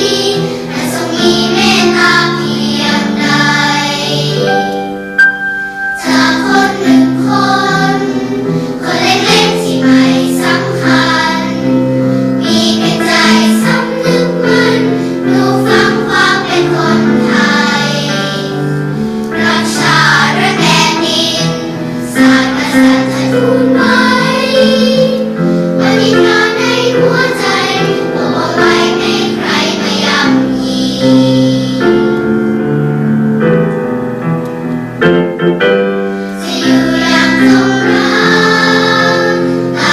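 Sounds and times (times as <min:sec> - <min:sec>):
girls choir singing: 0:00.0 - 0:32.5, 0:36.2 - 0:39.9
held accompaniment chords: 0:00.0 - 0:39.9.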